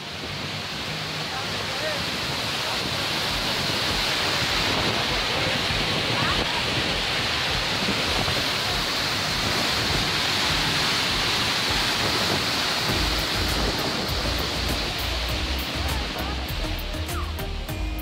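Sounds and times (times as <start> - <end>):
faint music: 0.0 - 18.0
waterfall roaring: 0.0 - 18.0.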